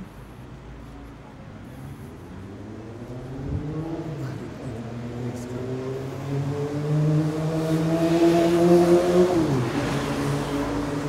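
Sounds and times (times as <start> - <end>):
vehicle engine accelerating: 1.8 - 11.0.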